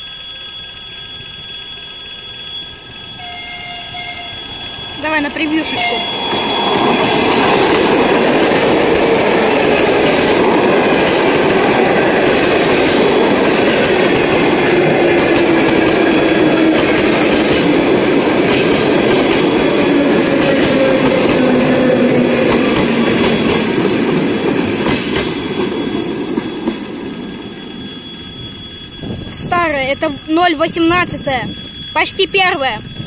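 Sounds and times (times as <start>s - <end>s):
train motor whine: 0.0s - 29.4s
train wheels rumbling on rails: 0.0s - 33.0s.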